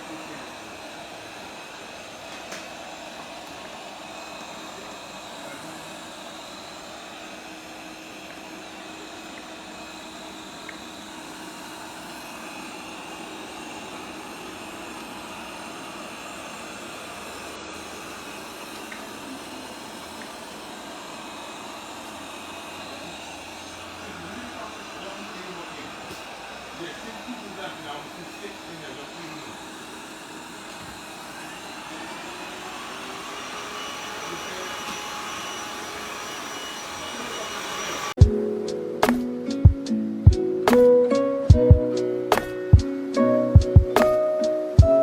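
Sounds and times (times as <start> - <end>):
robot vacuum whirring: 0.0 - 38.3.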